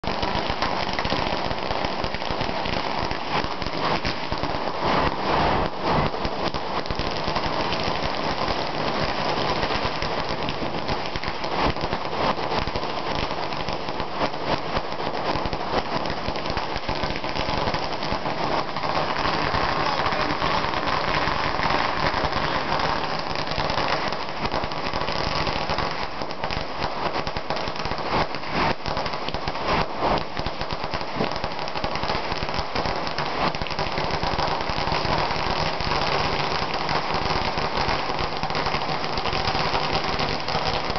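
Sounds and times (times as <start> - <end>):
firecrackers rattling: 0.0 - 40.9.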